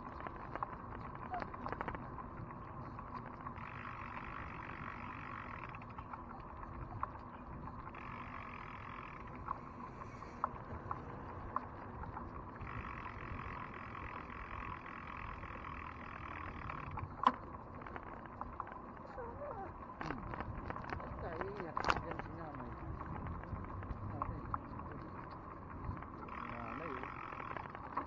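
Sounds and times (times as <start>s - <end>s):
bicycle road and wind noise: 0.0s - 28.0s.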